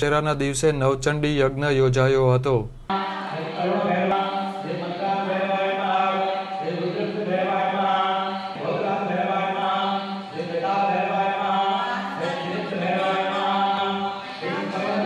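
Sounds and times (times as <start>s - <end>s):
voices chanting mantra: 2.9s - 15.0s.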